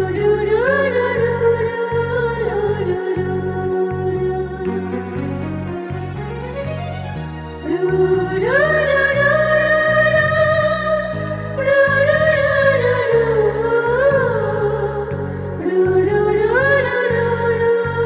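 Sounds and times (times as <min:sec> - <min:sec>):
low keyboard accompaniment: 0:00.0 - 0:18.0.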